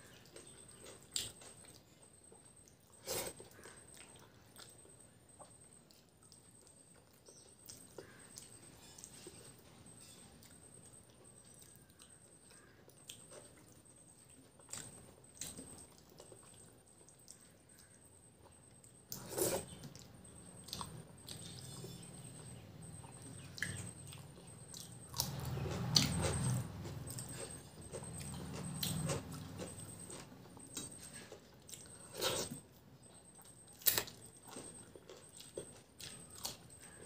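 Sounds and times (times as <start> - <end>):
chewing and mouth noises: 0.0 - 37.0.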